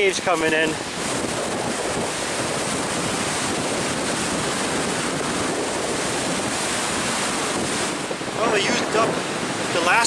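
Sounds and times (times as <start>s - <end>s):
waves breaking on shore: 0.0s - 10.0s
wind buffeting microphone: 0.0s - 10.0s.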